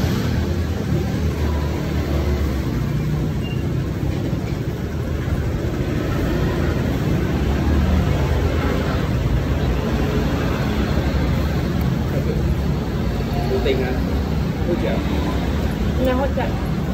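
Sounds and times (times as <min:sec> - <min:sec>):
low rumble of road vehicles: 0:00.0 - 0:16.9.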